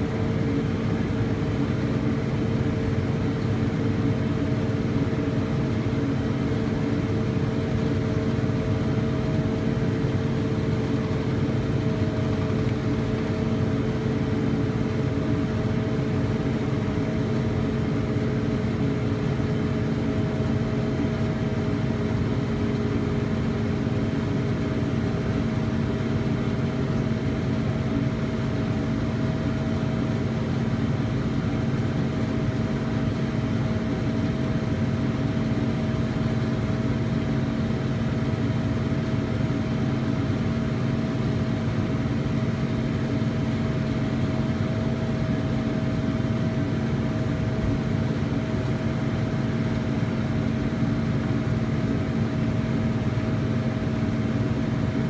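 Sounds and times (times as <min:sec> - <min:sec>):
tractor and baler humming: 0:00.0 - 0:55.0.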